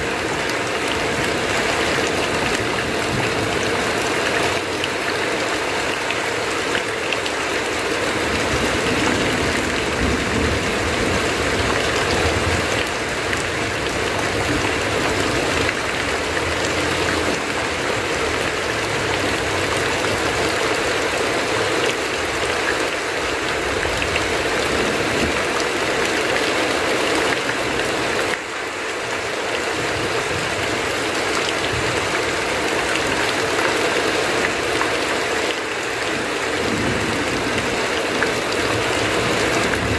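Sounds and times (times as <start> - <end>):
heavy rain on a tin roof: 0.0 - 39.9
water runoff streaming: 0.0 - 39.9.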